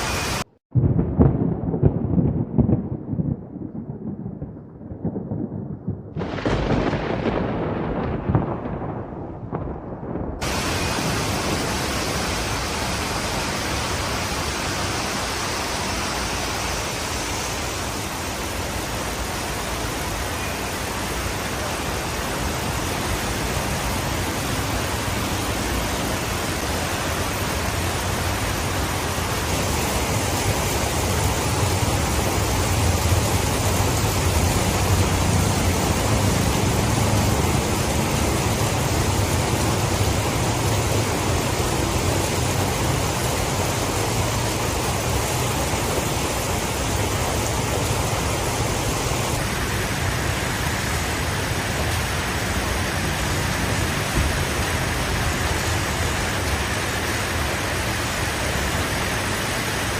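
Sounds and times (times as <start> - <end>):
heavy rain hissing: 0.0 - 0.5, 10.4 - 59.9.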